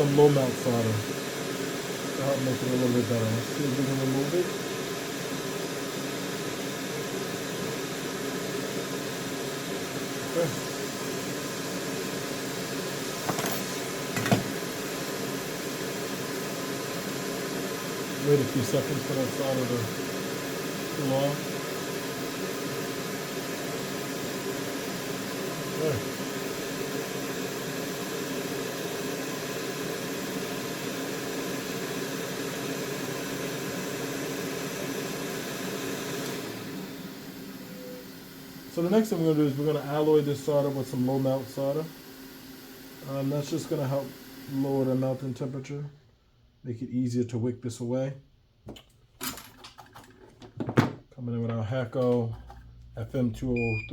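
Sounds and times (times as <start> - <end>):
rushing air from hot-air station: 0.0 - 45.9.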